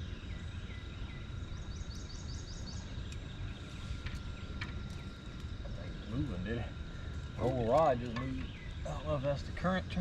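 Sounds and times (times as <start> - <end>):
high insect-like tone: 0.0 - 10.0.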